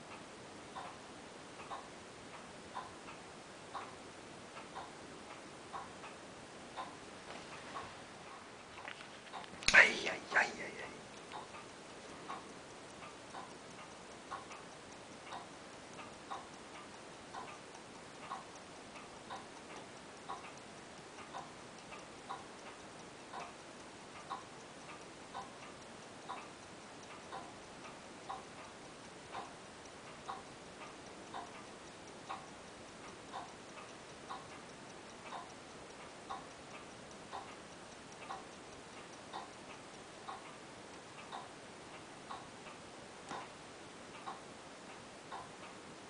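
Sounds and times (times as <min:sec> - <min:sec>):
watch ticking: 0:00.1 - 0:45.8.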